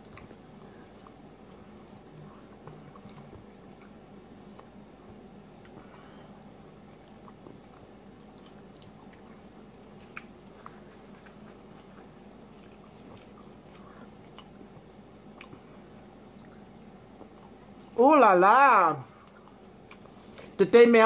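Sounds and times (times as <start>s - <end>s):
person chewing food: 0.0s - 18.0s, 19.1s - 20.6s
steady low hum: 0.0s - 21.0s.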